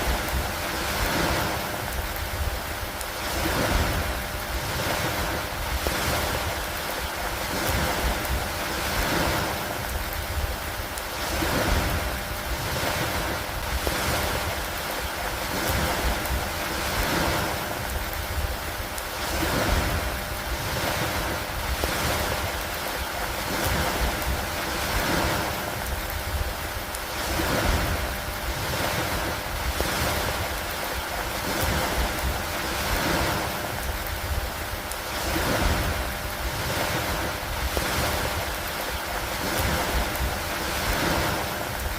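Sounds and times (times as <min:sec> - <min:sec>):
rain on a lake: 0:00.0 - 0:41.9.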